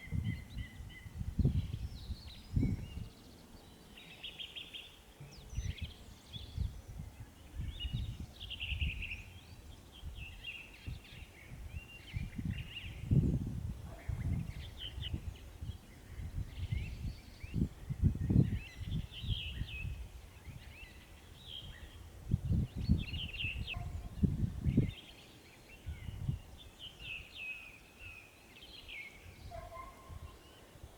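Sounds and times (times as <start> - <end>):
songbirds chirping and trilling: 0.0 - 30.9.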